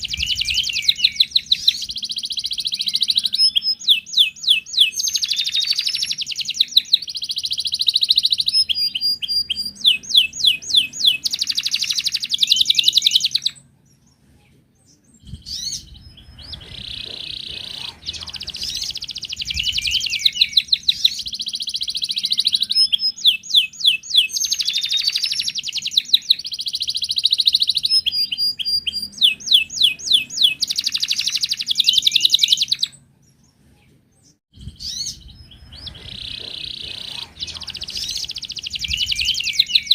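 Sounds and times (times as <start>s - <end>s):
canary singing trills: 0.0s - 33.6s, 34.2s - 39.9s.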